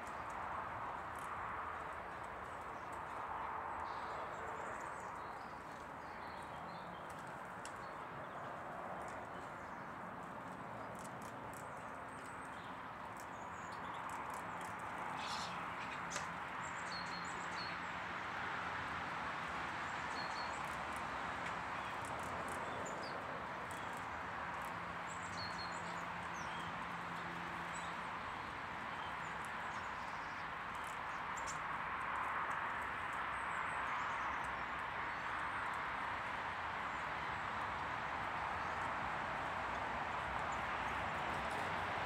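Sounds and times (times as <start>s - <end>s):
small birds chirping: 0.0s - 18.6s, 19.6s - 42.0s
steady outdoor hiss: 0.0s - 42.0s.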